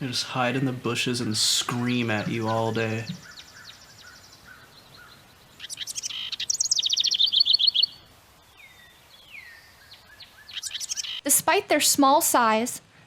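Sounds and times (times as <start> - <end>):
wren singing: 0.0 - 11.4.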